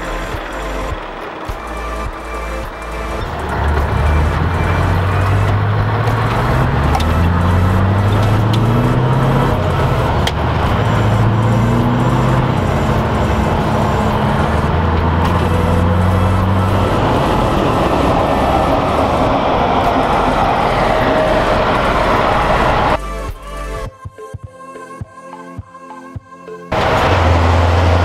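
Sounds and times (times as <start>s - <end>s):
truck engine pulling hard: 0.0s - 23.0s, 26.7s - 28.0s.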